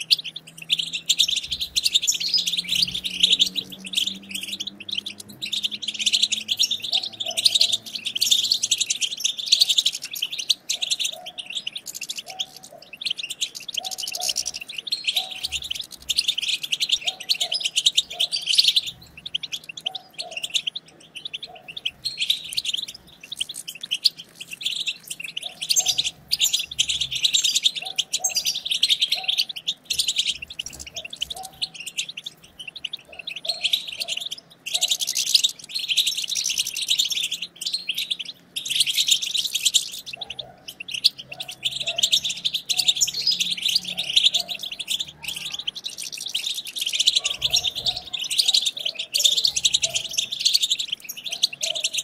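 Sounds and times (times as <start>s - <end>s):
birds twittering and chattering: 0.0s - 52.0s.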